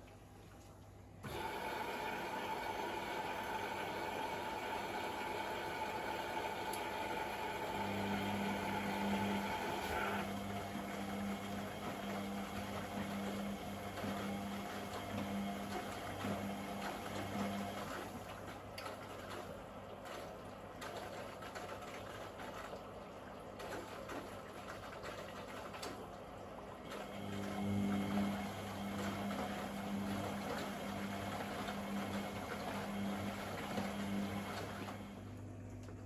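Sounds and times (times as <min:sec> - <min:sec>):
water swishing in washing machine: 0:00.0 - 0:36.0.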